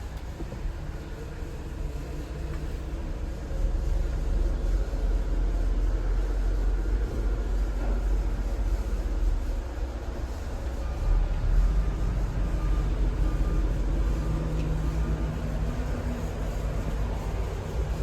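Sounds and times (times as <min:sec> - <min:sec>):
diesel engine low rumble: 0:00.0 - 0:18.0.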